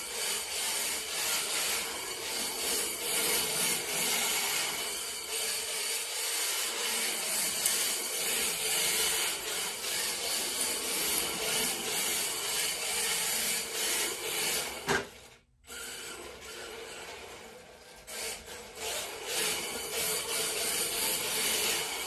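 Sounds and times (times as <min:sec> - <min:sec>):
toy car tyres rasping: 0:00.0 - 0:22.0.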